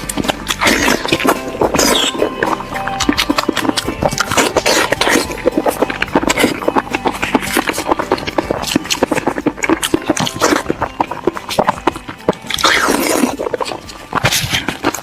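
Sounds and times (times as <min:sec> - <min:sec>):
chewing and lip-smacking: 0:00.0 - 0:15.0
hissing slurp: 0:00.0 - 0:15.0.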